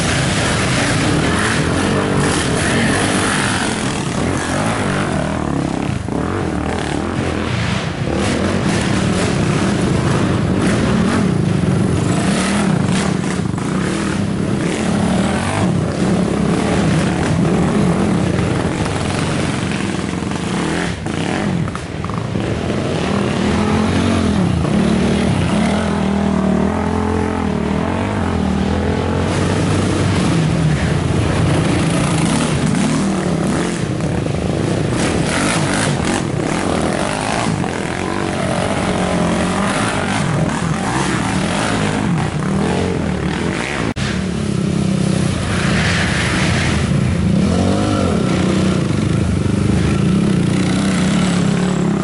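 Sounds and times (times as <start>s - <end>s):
quad engines revving: 0.0s - 52.0s.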